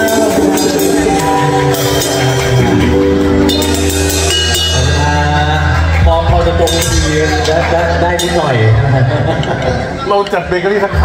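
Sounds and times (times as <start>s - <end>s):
cymbals crashing: 0.0s - 9.0s
drum kit played with sticks: 0.0s - 10.4s
held pitched notes: 0.0s - 11.0s.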